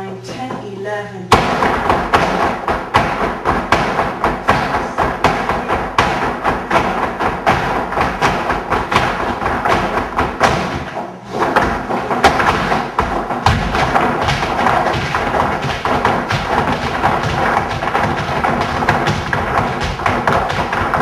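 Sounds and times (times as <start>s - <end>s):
flamenco music: 0.0s - 21.0s
shoes stamping on wooden floor: 1.3s - 21.0s.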